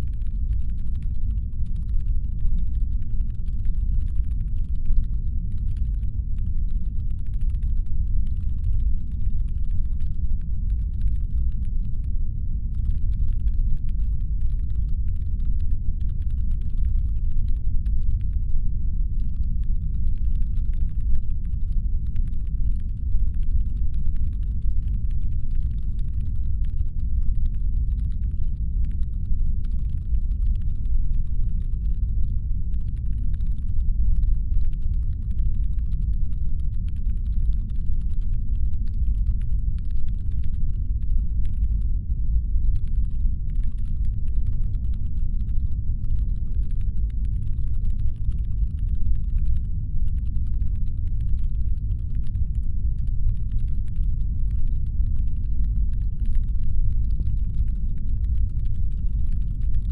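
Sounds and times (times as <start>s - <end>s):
deep brown-noise rumble: 0.0s - 59.9s
faint rapid clicking: 0.0s - 59.9s.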